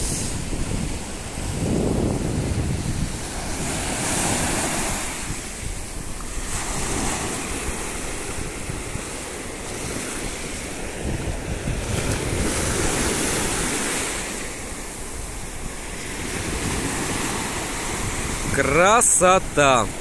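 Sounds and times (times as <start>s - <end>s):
waves breaking on shore: 0.0s - 20.0s
wind buffeting microphone: 0.0s - 20.0s.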